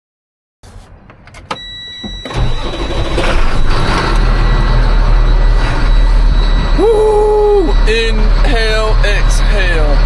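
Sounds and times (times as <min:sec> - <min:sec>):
truck engine starting and running: 0:00.6 - 0:10.0
steady high tone: 0:01.6 - 0:10.0.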